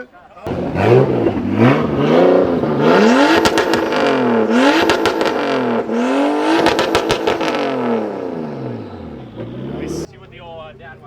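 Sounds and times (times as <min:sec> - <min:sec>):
exhaust popping cracks: 0:00.4 - 0:10.4
car engine revving: 0:00.4 - 0:11.0.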